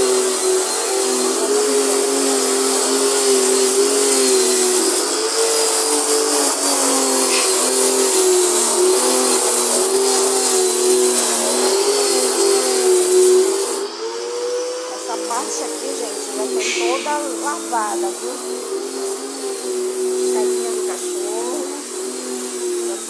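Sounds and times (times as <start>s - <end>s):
water spray hissing: 0.0s - 13.9s, 14.9s - 23.0s
pressure washer motor hum: 0.0s - 23.0s.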